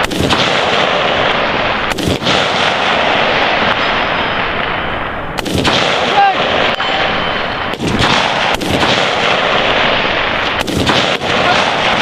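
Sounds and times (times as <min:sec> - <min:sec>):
rifle shots: 0:00.0 - 0:12.0.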